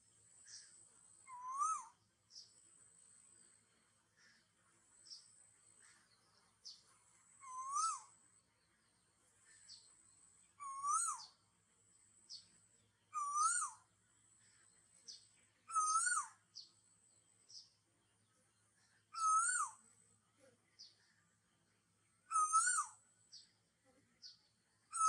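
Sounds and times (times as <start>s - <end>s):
faint high chirps: 0.0s - 25.0s.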